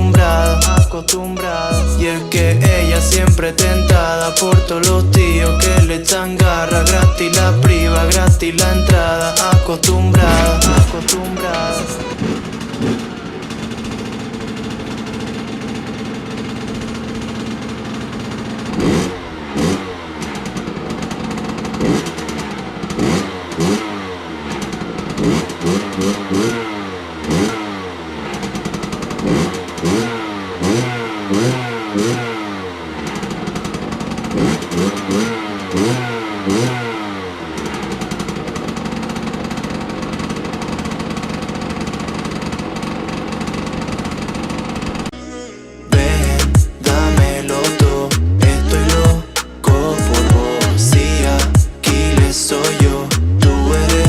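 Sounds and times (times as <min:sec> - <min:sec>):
two-stroke engine revving: 0:02.4 - 0:45.1, 0:46.0 - 0:54.0.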